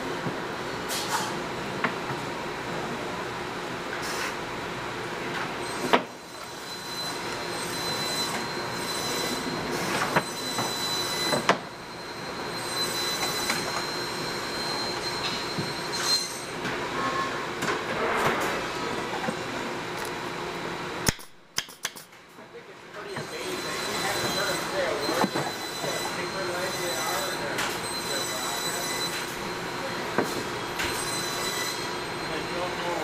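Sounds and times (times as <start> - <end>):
factory machinery whine: 0.0 - 21.2, 22.9 - 33.0.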